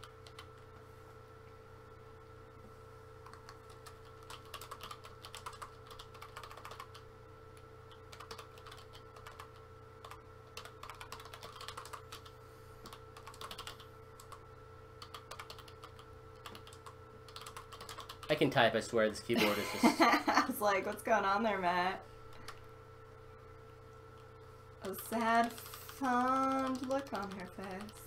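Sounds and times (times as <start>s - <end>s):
faint electrical hum: 0.0s - 28.0s.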